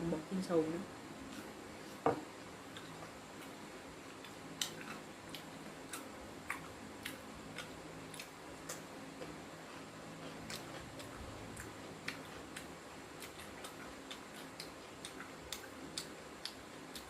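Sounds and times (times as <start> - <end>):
chewing crispy fried fish: 2.6 - 17.0.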